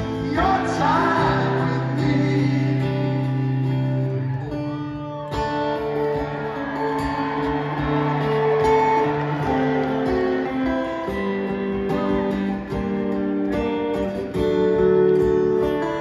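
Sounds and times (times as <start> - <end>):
acoustic guitars playing: 0.0 - 16.0.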